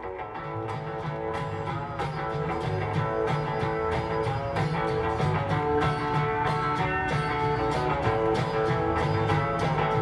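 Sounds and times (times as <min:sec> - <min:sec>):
guitar-led music: 0:00.0 - 0:10.0.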